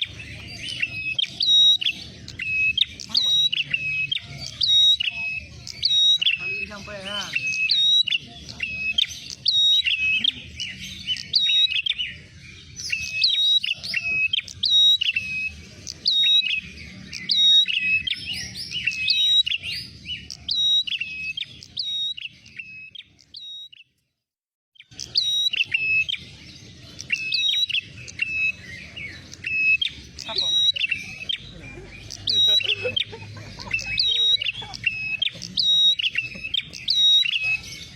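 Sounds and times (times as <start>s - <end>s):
bird chirping rapidly: 0.0s - 24.0s, 24.8s - 37.9s.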